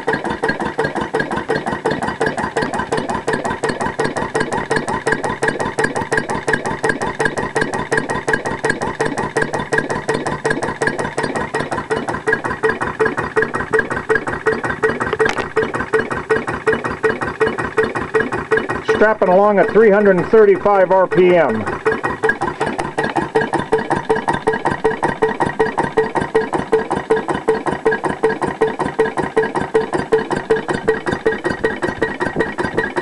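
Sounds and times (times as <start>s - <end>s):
engine exhaust chuffing: 0.0s - 33.0s.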